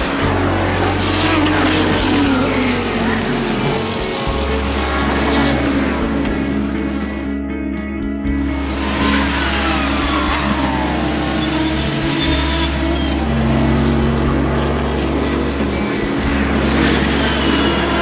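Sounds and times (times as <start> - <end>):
background music: 0.0 - 18.0
race car engines howling past: 0.0 - 18.0.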